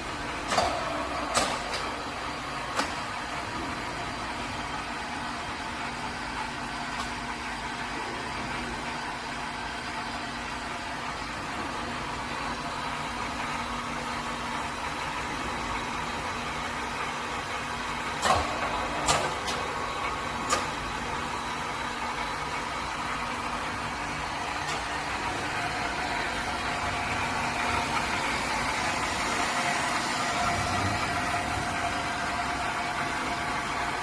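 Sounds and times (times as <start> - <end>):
milling machine running: 0.0 - 34.0.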